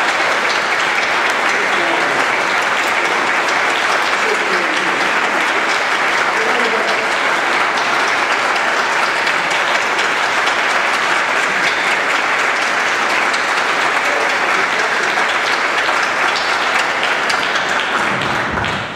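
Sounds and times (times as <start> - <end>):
dense steady clapping: 0.0 - 18.9.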